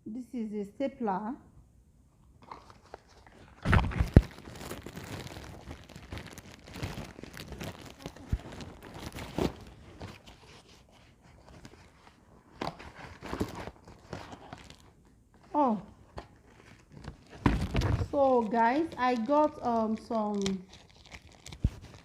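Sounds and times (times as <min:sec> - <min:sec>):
plastic packaging crinkling: 0:02.4 - 0:22.0.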